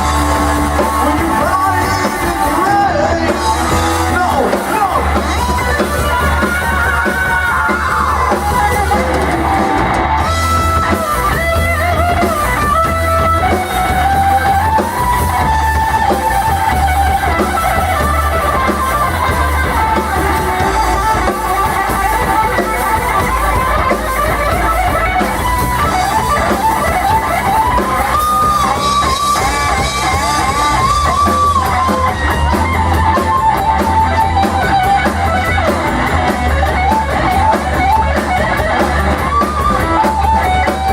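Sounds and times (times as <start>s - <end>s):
bass guitar: 0.0s - 40.9s
drums: 0.0s - 40.9s
lead electric guitar melody: 0.0s - 40.9s.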